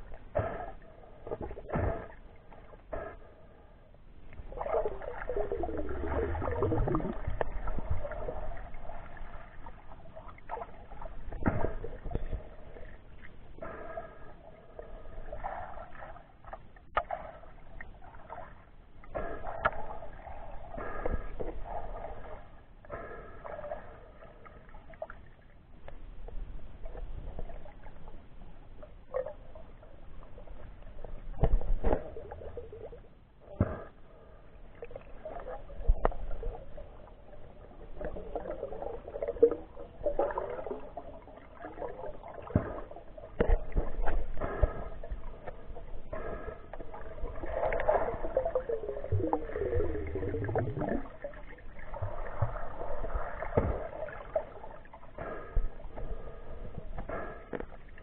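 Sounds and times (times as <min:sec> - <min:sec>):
muffled water sloshing: 0:00.0 - 0:58.0.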